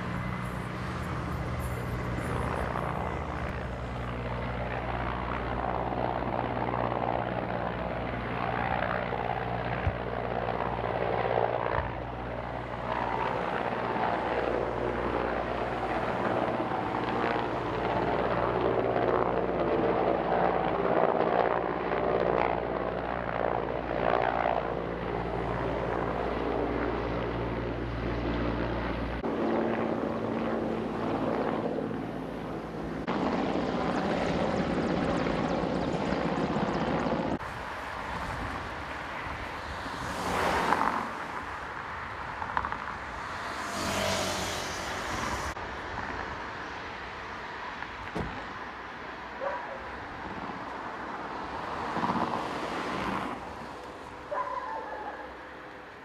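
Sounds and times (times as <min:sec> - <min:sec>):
helicopter drone: 0:00.0 - 0:56.0.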